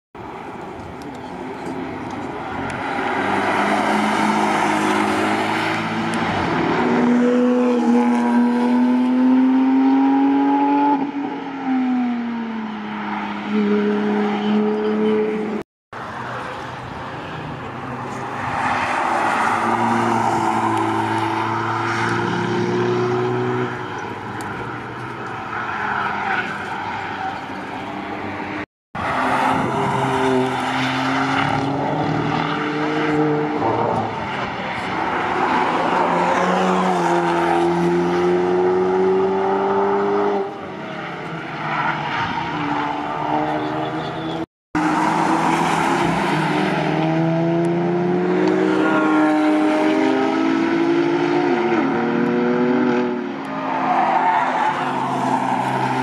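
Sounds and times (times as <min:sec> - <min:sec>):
tyre and road noise: 0:00.2 - 0:56.0
cars accelerating through corner: 0:00.4 - 0:56.0.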